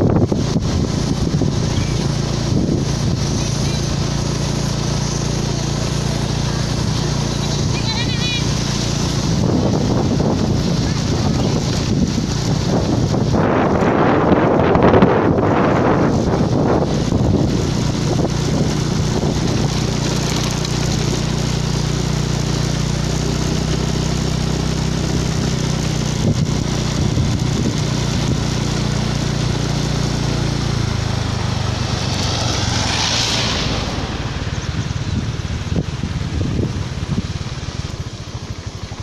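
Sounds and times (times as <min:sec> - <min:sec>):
vehicle engine climbing: 0:00.0 - 0:39.0
wind rushing on microphone: 0:00.0 - 0:39.0.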